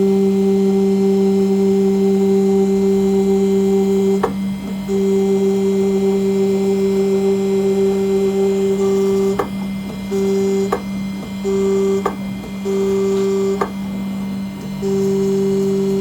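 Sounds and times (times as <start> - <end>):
engraving machine hum and whine: 0.0 - 16.0.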